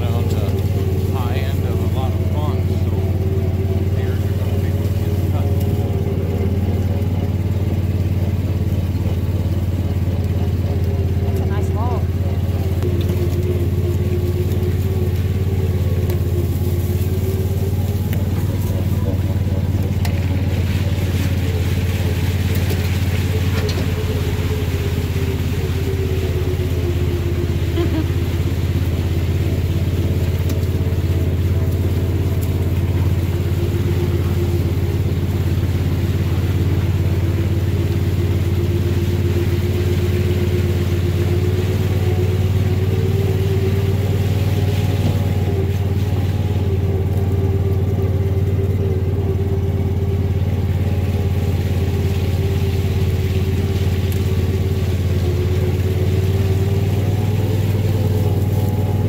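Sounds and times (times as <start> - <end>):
small vehicle engine running: 0.0 - 59.0.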